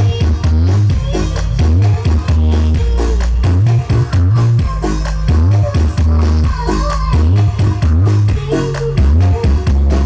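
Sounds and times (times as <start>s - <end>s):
electronic dance music with heavy bass: 0.0s - 10.0s.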